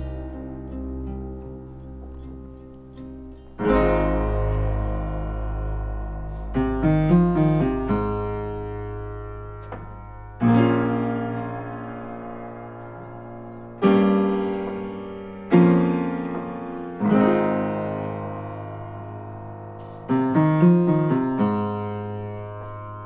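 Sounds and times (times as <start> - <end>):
piano playing: 0.0 - 23.0.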